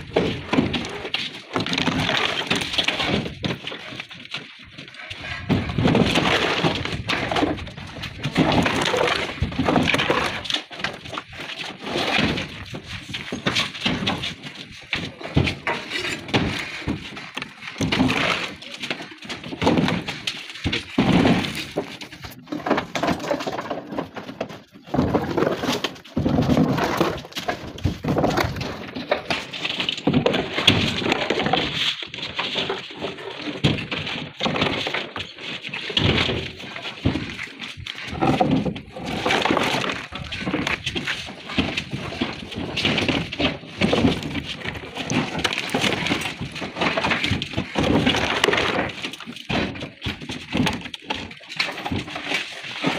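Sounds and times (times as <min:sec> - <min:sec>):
stone slabs clattering and scraping: 0:00.0 - 0:52.9.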